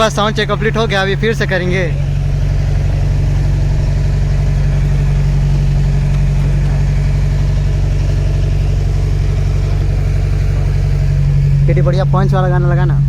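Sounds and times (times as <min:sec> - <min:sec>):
diesel generator engine running: 0:00.0 - 0:13.0.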